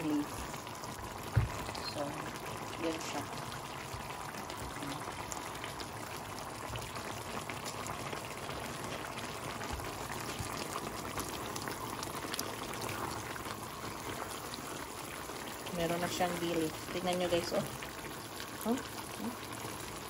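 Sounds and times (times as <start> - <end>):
sauce bubbling in frying pan: 0.0 - 20.0.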